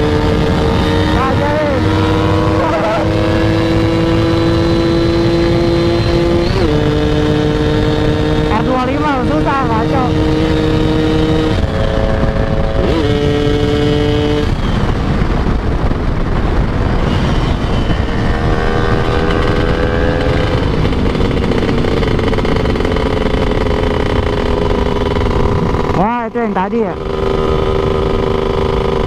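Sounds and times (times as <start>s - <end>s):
two-stroke motorcycle engine: 0.0s - 29.0s
wind rush on microphone: 0.0s - 29.0s.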